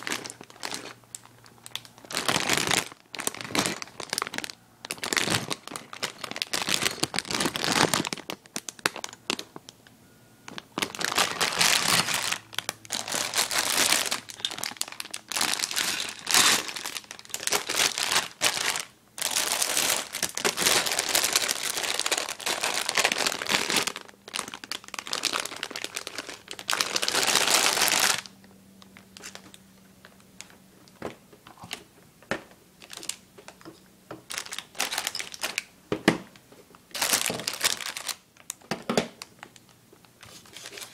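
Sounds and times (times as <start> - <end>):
plastic bags crinkling: 0.0 - 9.8, 10.5 - 31.8, 32.8 - 35.7, 36.8 - 40.9.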